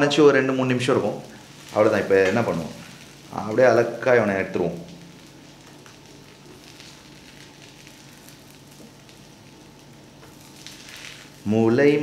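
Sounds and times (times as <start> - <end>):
faint sizzle in a pan: 0.0 - 12.0
light crackles: 0.0 - 12.0.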